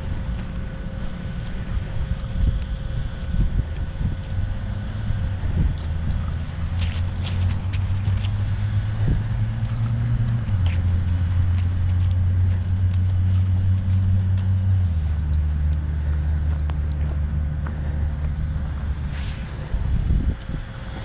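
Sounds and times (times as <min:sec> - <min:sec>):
light scuffs and clicks: 0:00.0 - 0:21.0
vehicle engine humming: 0:00.0 - 0:21.0.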